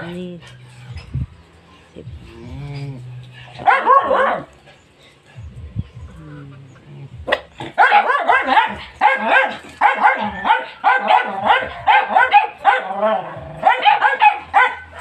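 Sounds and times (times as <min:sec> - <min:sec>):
dogs barking and yipping: 0:02.7 - 0:15.0.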